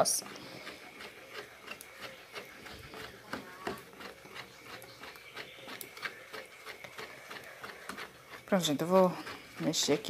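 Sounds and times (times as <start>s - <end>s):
spoon scraping a metal pot: 0.0s - 10.0s.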